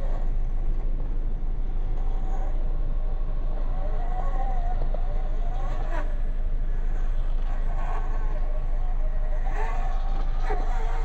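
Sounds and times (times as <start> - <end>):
rc car motor whining: 1.6 - 11.0.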